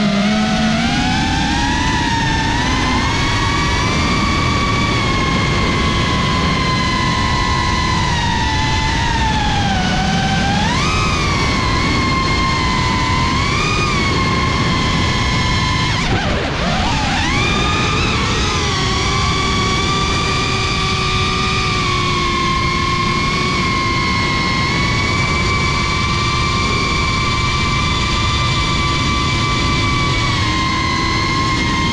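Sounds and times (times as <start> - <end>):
drone motors whining: 0.0 - 31.9
propellers rushing: 0.0 - 31.9.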